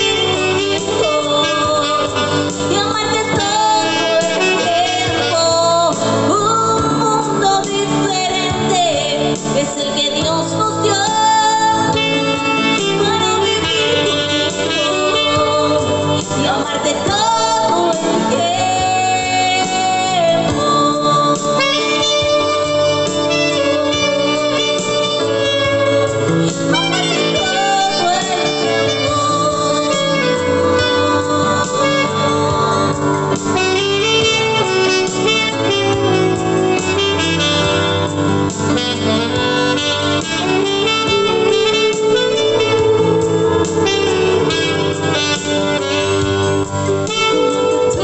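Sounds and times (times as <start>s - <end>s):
guitar and backing chords: 0.0s - 48.0s
wind instrument melody: 0.0s - 48.0s.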